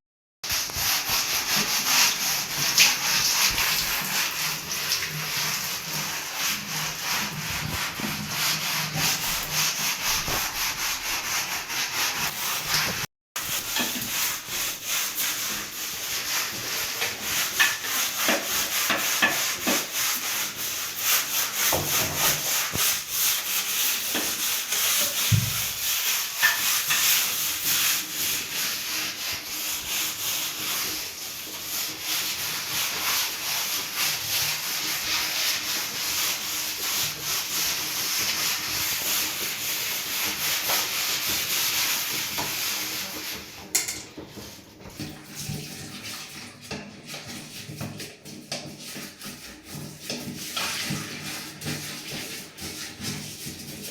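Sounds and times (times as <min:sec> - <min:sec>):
brush scrubbing a surface: 0:00.4 - 0:53.9.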